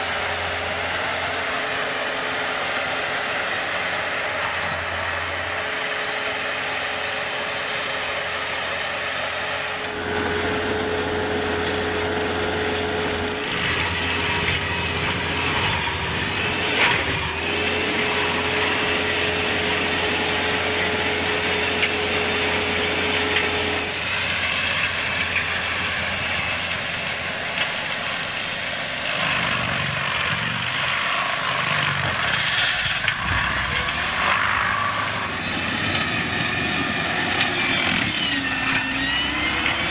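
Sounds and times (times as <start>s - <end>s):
mulcher shredding brush: 0.0s - 39.9s
tractor engine under load: 0.0s - 39.9s.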